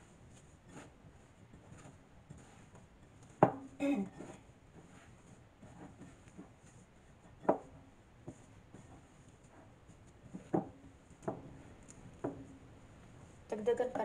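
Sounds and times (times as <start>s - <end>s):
hands kneading dough: 0.0s - 14.0s.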